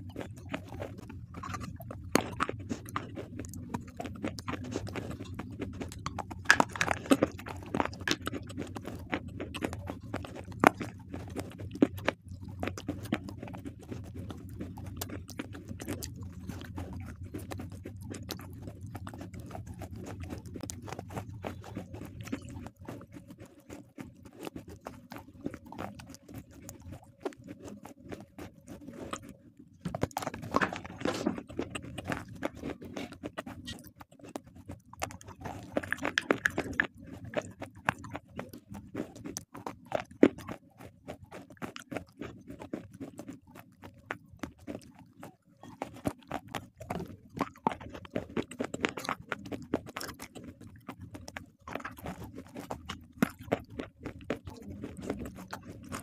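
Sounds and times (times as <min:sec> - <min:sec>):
crunching and chewing stone: 0:00.0 - 0:56.0
wet mouth sounds: 0:00.0 - 0:56.0.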